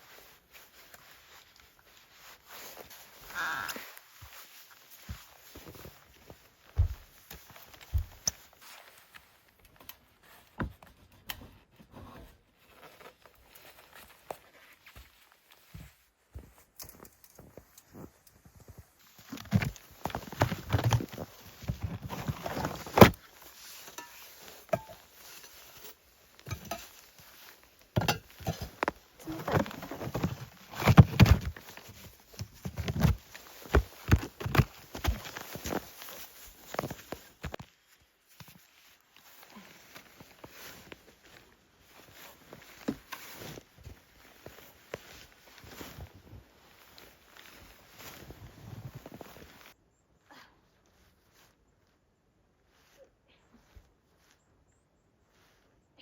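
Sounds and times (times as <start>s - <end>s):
footsteps crunching in snow: 0.0s - 10.5s, 12.6s - 49.8s.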